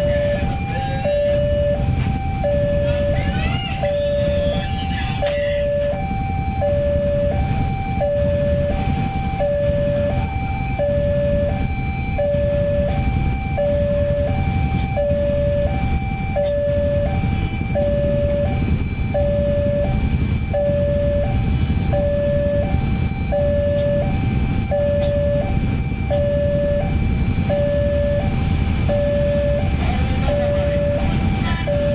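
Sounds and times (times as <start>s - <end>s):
steady low rumble: 0.0s - 31.9s
two-tone crossing alarm: 0.0s - 31.9s.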